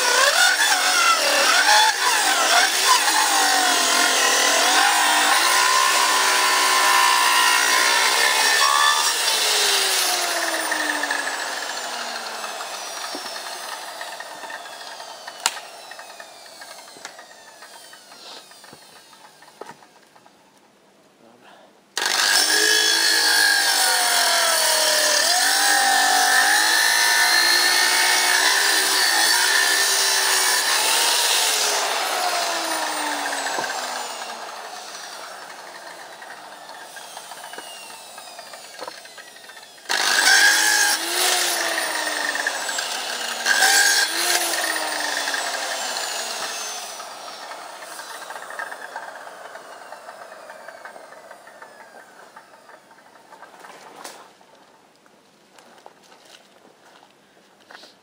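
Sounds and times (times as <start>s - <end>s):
power saw cutting wood: 0.0s - 20.3s, 22.0s - 54.3s.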